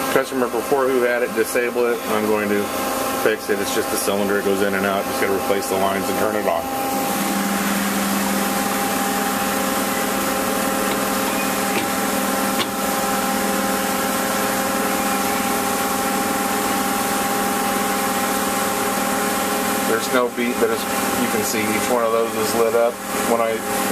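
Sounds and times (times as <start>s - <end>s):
lathe machine hum: 0.0s - 23.9s.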